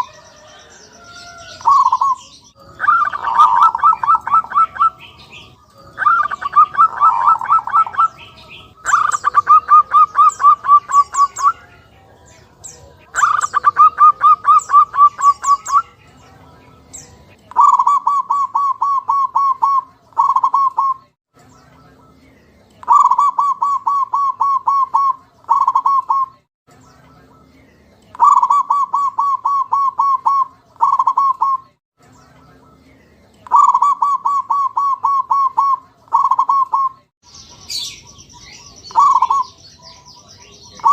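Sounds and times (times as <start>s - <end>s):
dove calling: 0.0s - 21.2s, 22.8s - 26.4s, 28.1s - 31.8s, 33.4s - 40.9s.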